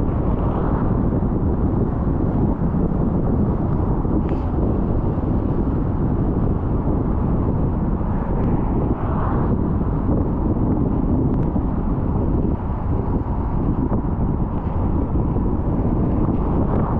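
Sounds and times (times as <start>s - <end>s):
road and wind noise: 0.0s - 16.9s.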